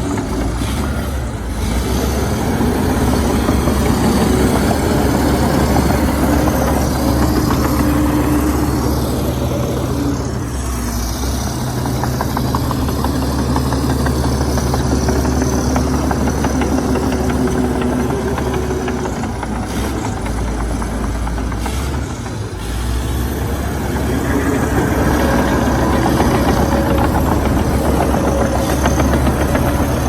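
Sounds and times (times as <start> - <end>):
heavy diesel machinery engine: 0.0 - 30.0.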